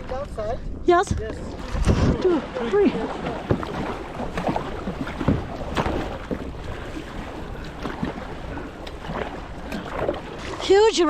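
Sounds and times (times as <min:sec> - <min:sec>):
wind rumbling on microphone: 0:00.0 - 0:11.0
paddle splashing in water: 0:00.9 - 0:11.0.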